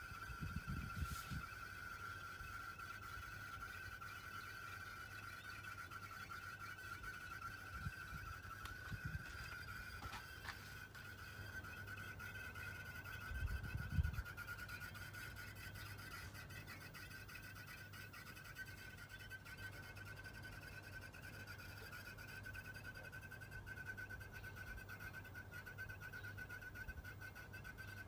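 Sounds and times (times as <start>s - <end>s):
air conditioner bubbling and popping: 0.0s - 28.0s.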